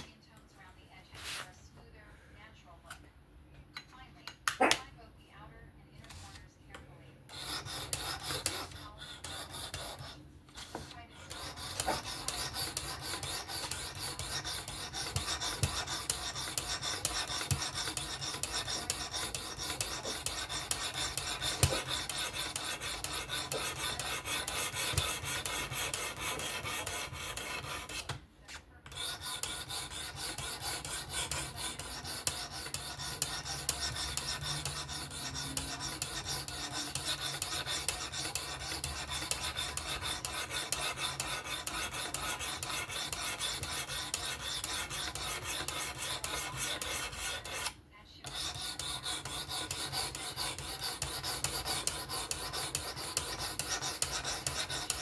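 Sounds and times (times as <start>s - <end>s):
stone scraping knife blade: 7.3s - 28.1s, 28.9s - 47.7s, 48.3s - 55.0s.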